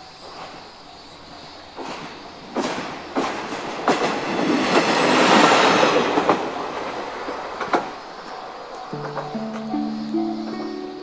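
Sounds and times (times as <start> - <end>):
train wheels clacking on rails: 0.0 - 10.9.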